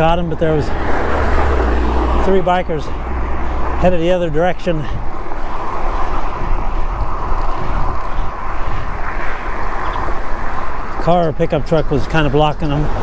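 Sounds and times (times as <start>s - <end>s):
wind and road noise while cycling: 0.0s - 13.0s.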